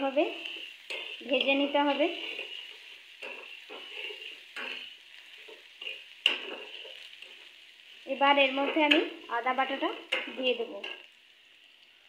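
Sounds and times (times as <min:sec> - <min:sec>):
spatula scraping a pan: 0:00.0 - 0:07.6, 0:08.4 - 0:11.1
oil sizzling: 0:00.0 - 0:12.0.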